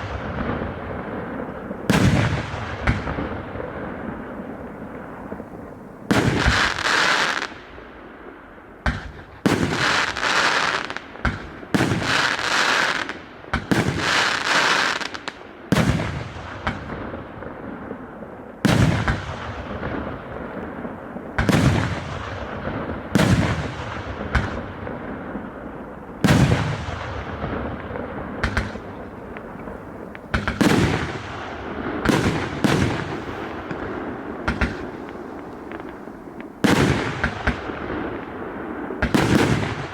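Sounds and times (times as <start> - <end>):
sharp firework shots: 0.0 - 7.7, 8.8 - 17.2, 18.6 - 39.9
firework bursts with hissing tails: 0.0 - 39.9.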